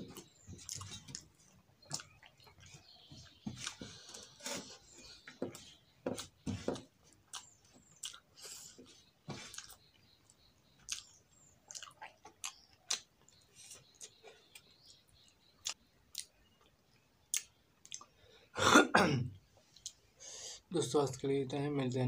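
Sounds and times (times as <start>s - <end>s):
man chewing food: 0.0s - 18.3s, 19.5s - 20.2s.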